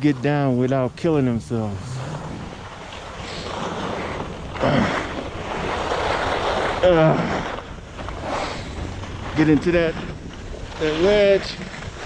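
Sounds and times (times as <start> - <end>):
skis scraping over snow: 0.0 - 12.0
wind buffeting microphone: 0.0 - 12.0.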